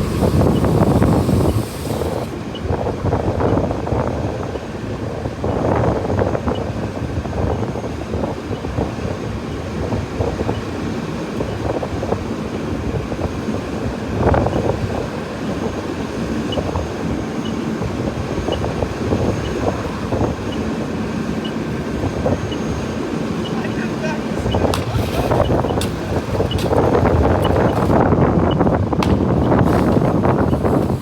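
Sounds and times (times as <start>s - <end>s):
vehicle engine rumbling: 0.0s - 3.3s, 7.2s - 31.0s
wind on microphone: 0.0s - 31.0s.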